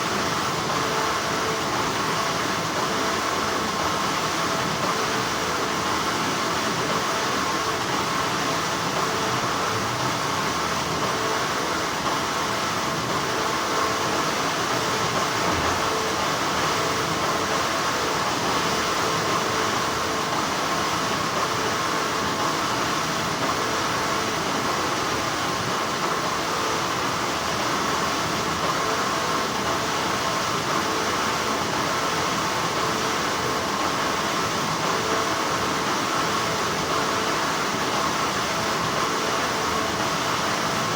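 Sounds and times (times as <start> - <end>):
factory machinery hum: 0.0 - 40.9.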